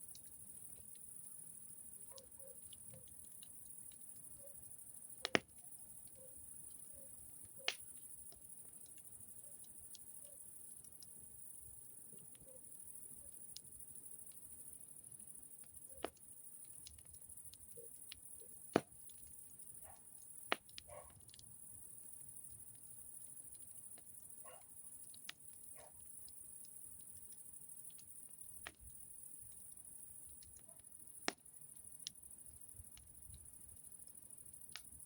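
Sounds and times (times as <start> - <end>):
campfire popping and crackling: 0.0 - 35.0.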